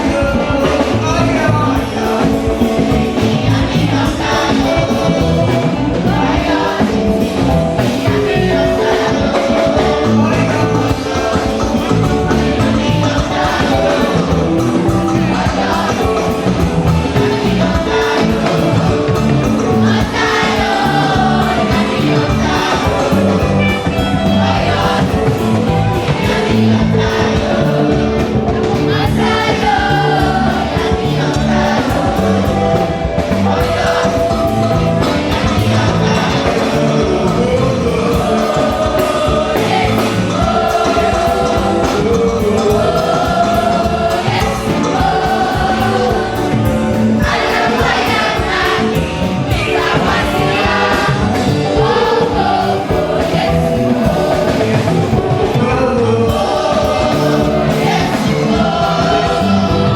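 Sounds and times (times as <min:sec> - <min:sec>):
choir singing a gospel song: 0:00.0 - 0:59.9
instrumental backing with bass rhythm: 0:00.0 - 0:59.9.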